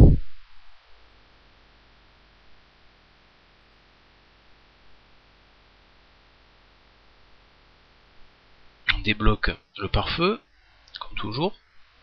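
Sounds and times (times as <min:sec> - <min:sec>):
faint steady hiss: 0:00.0 - 0:12.0
low mains hum: 0:00.0 - 0:12.0.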